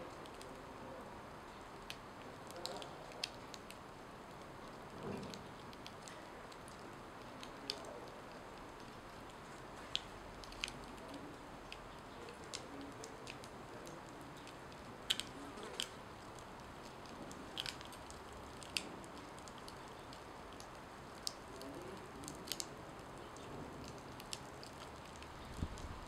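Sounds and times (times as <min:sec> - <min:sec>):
burning tortilla crackling: 0:00.0 - 0:26.0
low steady hiss: 0:00.0 - 0:26.0.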